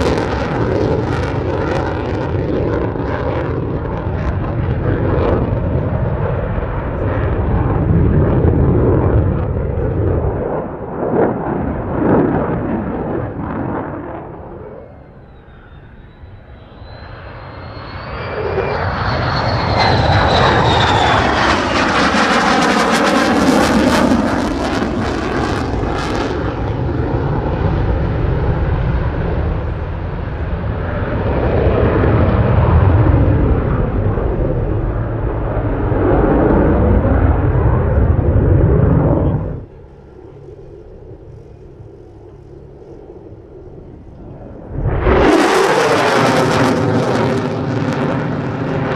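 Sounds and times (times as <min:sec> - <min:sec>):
jet engine roaring: 0:00.0 - 0:48.9.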